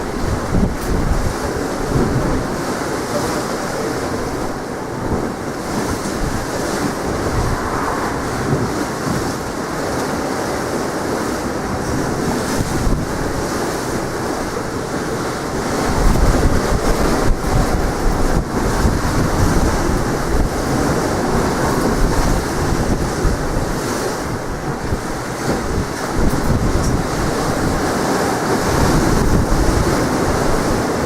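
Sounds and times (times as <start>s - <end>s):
sea waves washing ashore: 0.0s - 31.0s
wind buffeting microphone: 0.0s - 31.0s.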